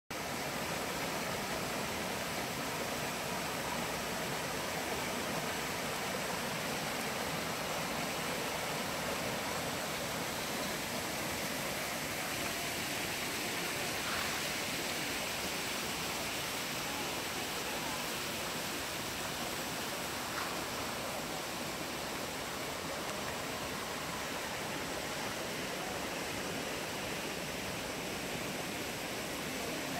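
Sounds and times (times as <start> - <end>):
stream running over stones: 0.1 - 29.9.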